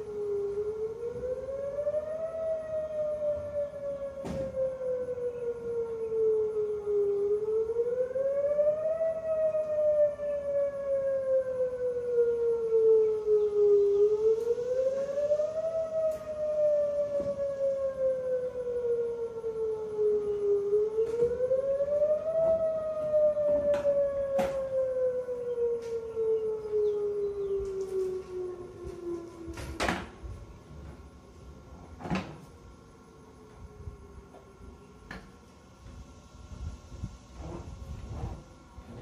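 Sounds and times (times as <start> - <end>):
warning siren wailing: 0.0 - 36.0.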